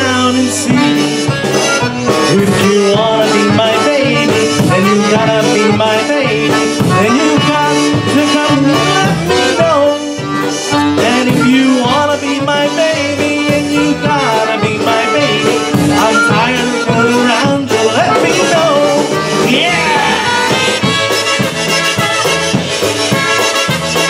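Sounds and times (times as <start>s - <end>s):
accordion melody: 0.0s - 24.0s
polka band playing: 0.0s - 24.0s.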